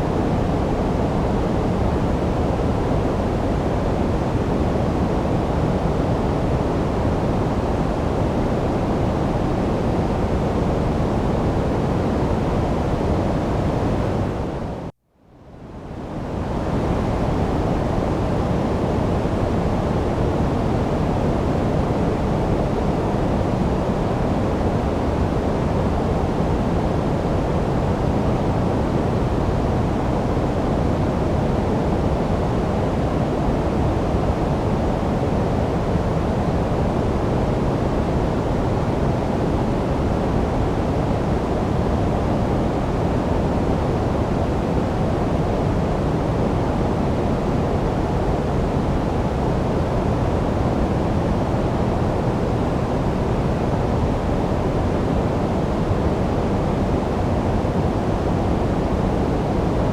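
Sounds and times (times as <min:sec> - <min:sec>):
steady low noise rush: 0:00.0 - 0:59.9.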